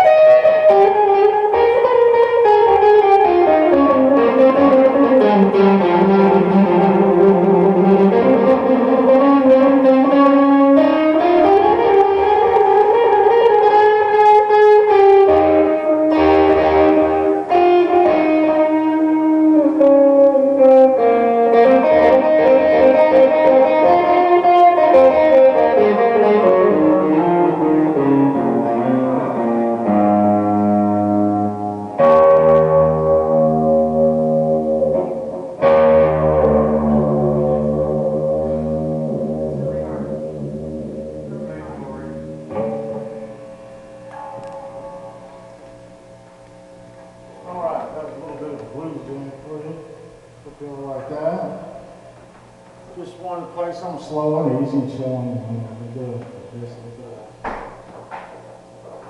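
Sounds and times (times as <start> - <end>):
electric guitar playing blues: 0.0 - 50.5.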